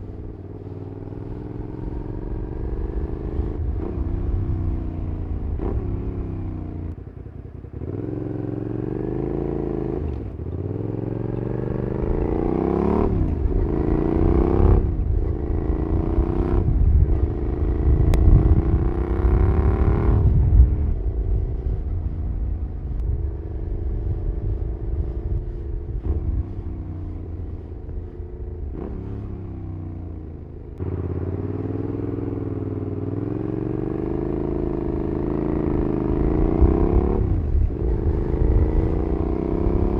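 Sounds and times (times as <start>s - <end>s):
motorcycle engine revving: 0.0s - 39.9s
wind rumbling on microphone: 0.0s - 39.9s.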